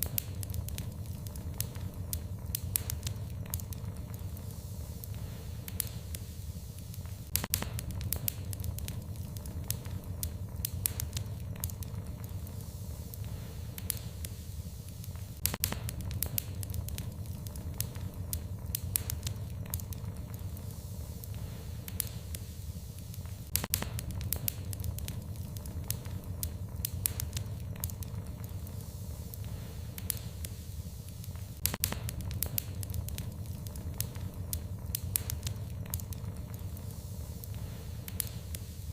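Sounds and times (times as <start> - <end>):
fire crackling: 0.0 - 38.9
fire popping: 0.0 - 38.9
steady low rumble: 0.0 - 38.9.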